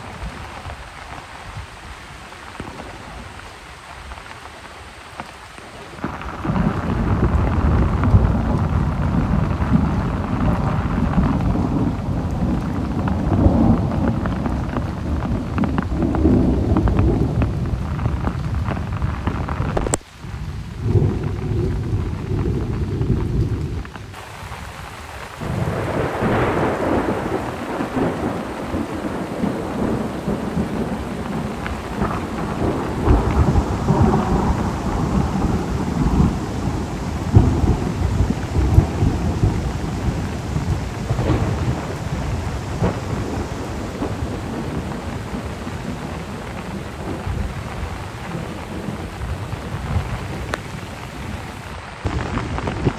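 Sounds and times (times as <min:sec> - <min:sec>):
heavy rain: 0:00.0 - 0:52.9
thunder rumbling: 0:00.0 - 0:52.9.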